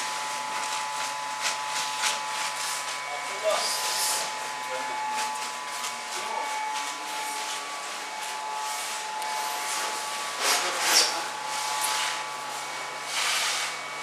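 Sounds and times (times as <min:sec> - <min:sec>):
high electrical whine: 0:00.0 - 0:14.0
workshop machinery hiss: 0:01.8 - 0:14.0.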